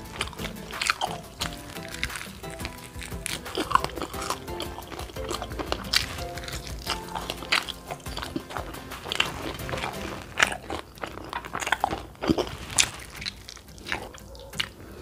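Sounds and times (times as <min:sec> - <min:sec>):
crunchy chewing of fried chicken: 0:00.0 - 0:15.0.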